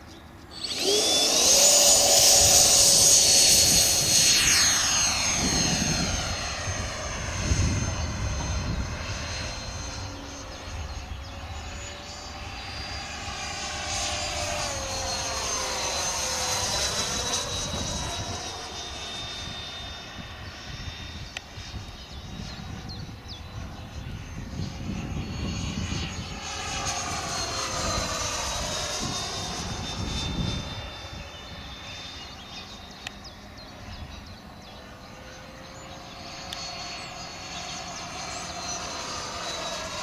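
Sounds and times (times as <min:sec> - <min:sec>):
electric ducted fan whine: 0:00.0 - 0:40.0.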